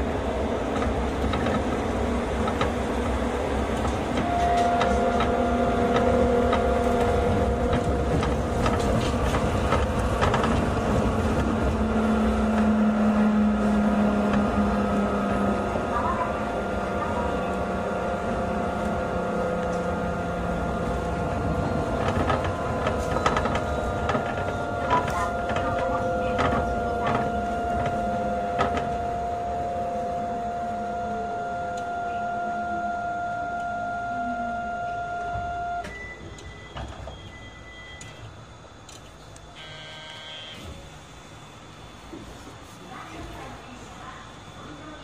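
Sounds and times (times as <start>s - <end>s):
train whine: 0.0s - 45.0s.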